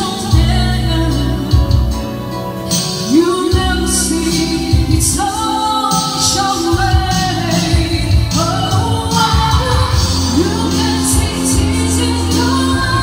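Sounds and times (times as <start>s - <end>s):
woman singing into microphone: 0.0s - 2.3s, 3.0s - 13.0s
low bass notes: 0.0s - 2.8s, 3.5s - 5.6s, 6.5s - 13.0s
electric guitar: 0.0s - 13.0s.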